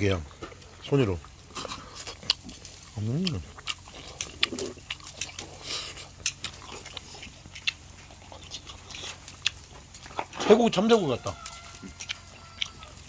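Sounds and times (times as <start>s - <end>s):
person chewing and smacking: 0.0s - 13.0s.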